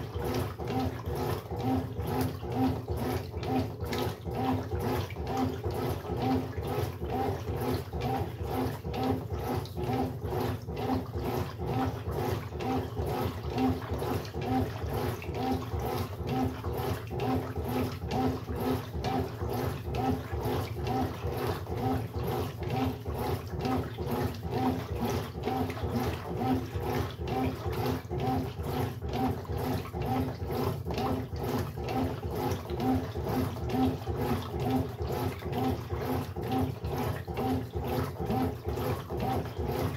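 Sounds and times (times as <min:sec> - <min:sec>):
washing machine motor pulsing hum: 0:00.0 - 0:39.9
water sloshing: 0:00.0 - 0:39.9.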